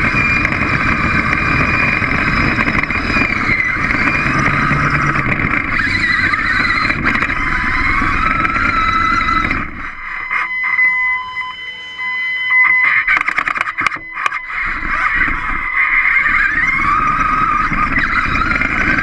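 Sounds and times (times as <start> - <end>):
wheels rumbling on concrete: 0.0 - 11.2, 12.6 - 19.0
electric motors whining: 0.0 - 19.0.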